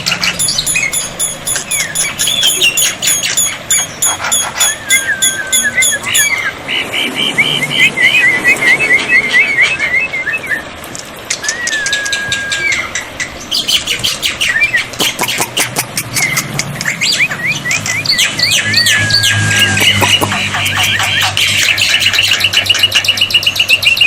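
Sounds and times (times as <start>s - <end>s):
bird singing chirps and whistles: 0.0s - 10.7s, 11.3s - 24.0s.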